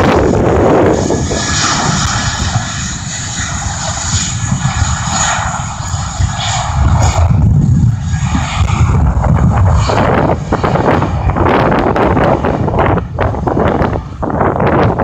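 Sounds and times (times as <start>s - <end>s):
jet engines whining and rumbling: 0.0s - 15.0s.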